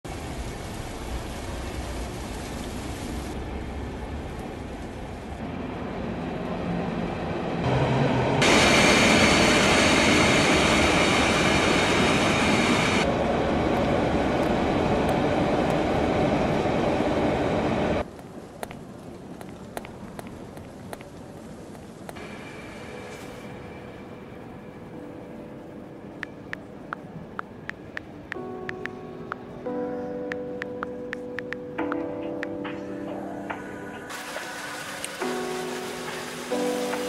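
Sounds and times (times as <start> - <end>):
train passing with whine: 0.1 - 19.1, 21.4 - 37.0.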